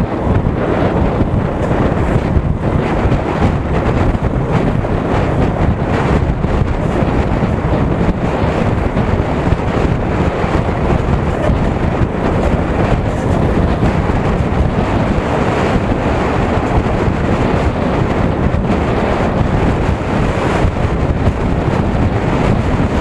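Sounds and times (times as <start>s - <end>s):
road noise: 0.0s - 23.0s
wind buffeting microphone: 0.0s - 23.0s.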